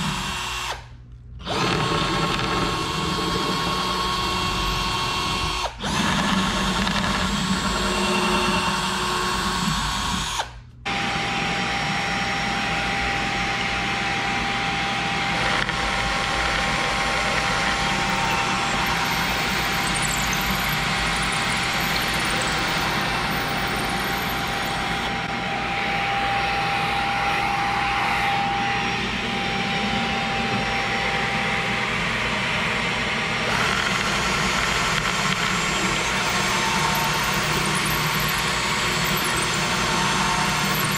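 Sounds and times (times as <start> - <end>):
power drill boring wood: 0.0 - 40.9.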